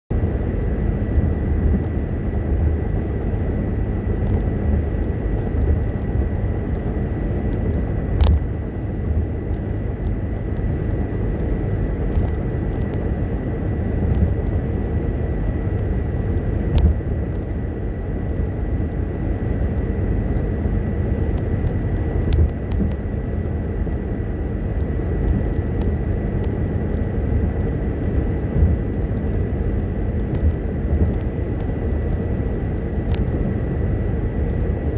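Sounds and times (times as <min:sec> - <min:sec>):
tyre and engine rumble: 0:00.1 - 0:34.9.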